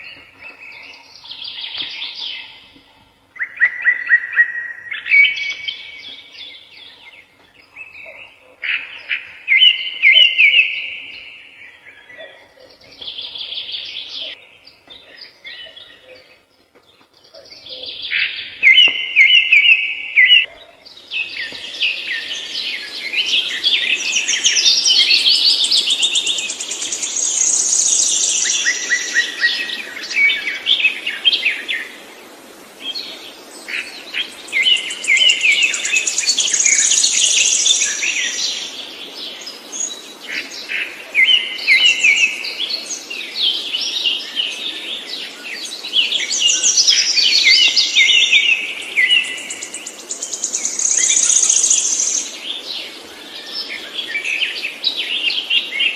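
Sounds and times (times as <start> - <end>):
songbird chirping and trilling: 0.0 - 32.1, 32.8 - 55.9.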